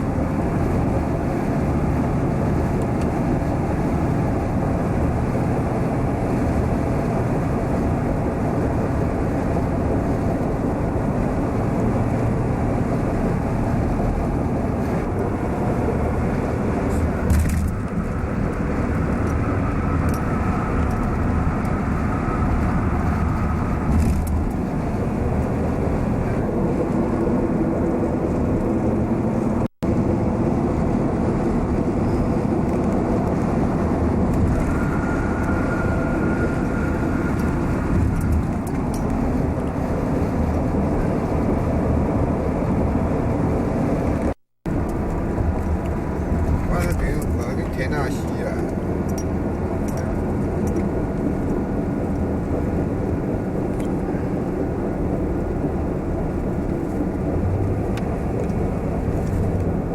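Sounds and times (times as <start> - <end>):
car rumbling along road: 0.0 - 59.9.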